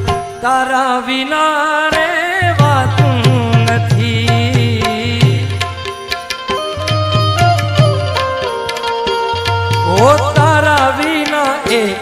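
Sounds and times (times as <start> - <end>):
hand drum beating: 2.0 - 12.0.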